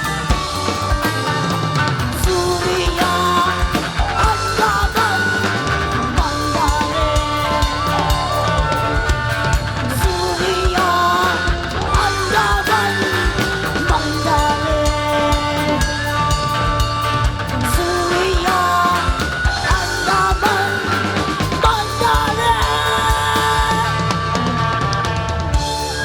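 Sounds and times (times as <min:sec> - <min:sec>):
drum kit beat: 0:00.0 - 0:26.0
melodic line sliding in pitch: 0:00.0 - 0:26.0.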